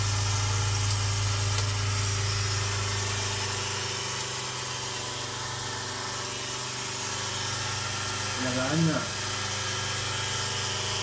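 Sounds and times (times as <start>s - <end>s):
pump electric hum: 0.0s - 11.0s.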